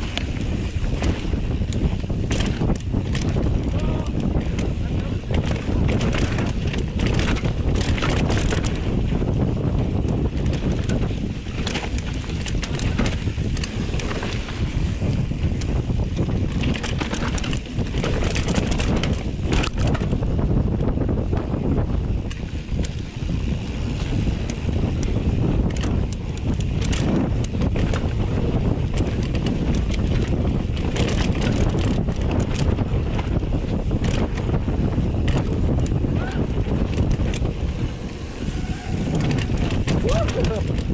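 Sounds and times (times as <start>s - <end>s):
bike clicks and rattles: 0.0s - 40.9s
bike tyres on dirt: 0.0s - 40.9s
wind buffeting microphone: 0.0s - 40.9s.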